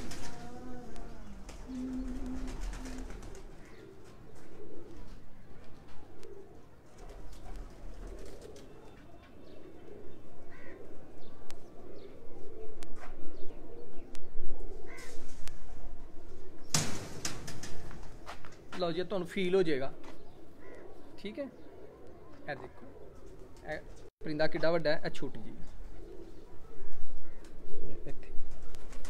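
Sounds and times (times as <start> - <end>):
pigeons cooing: 0.0 - 24.1, 25.4 - 29.0.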